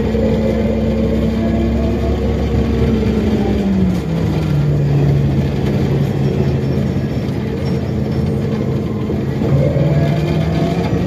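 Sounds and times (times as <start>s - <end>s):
bus interior whine and rumble: 0.0s - 11.0s.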